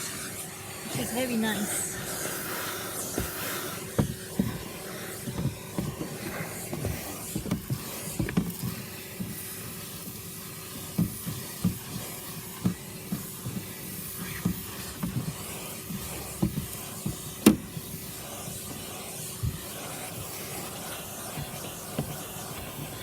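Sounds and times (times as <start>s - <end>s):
vacuum cleaner running: 0.0s - 23.0s
brush nozzle knocking and scraping: 0.9s - 23.0s.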